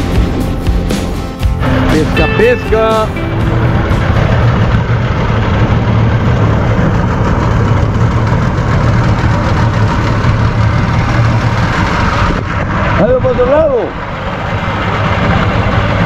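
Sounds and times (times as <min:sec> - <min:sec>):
dense rushing noise: 0:00.0 - 0:16.0
engine running steadily: 0:00.0 - 0:16.0.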